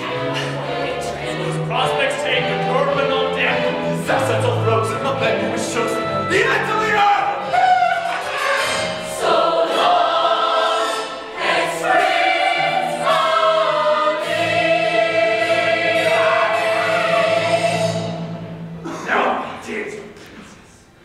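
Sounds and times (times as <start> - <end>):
chorus singing: 0.0 - 19.0
musical accompaniment: 0.0 - 19.4.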